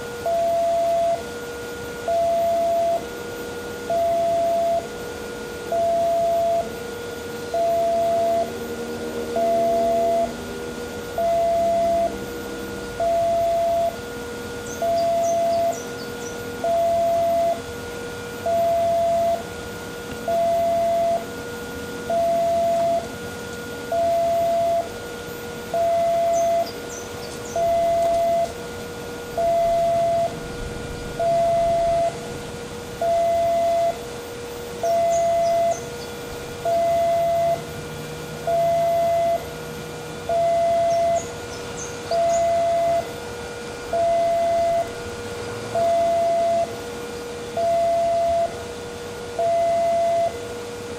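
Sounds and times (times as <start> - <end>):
level crossing two-tone alarm: 0.0 - 50.9.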